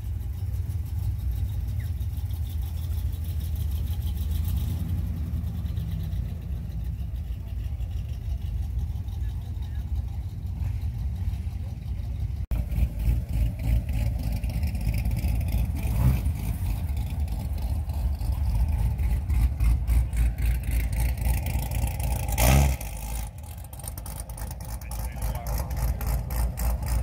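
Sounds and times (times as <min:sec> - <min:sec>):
car engine revving: 0:00.0 - 0:27.0
car engines rumbling: 0:00.0 - 0:27.0.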